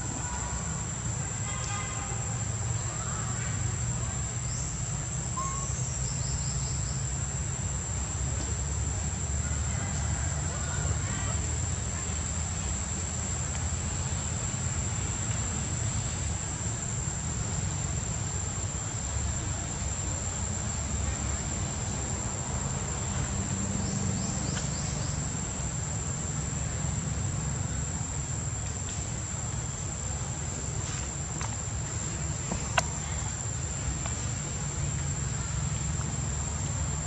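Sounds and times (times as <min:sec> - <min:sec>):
insects buzzing: 0:00.0 - 0:37.0.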